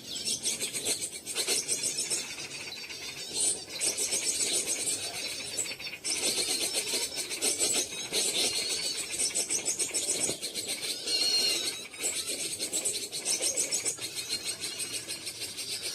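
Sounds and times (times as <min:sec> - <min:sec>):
whistled bird notes: 0:00.0 - 0:15.9
wild birds calling: 0:00.0 - 0:15.9.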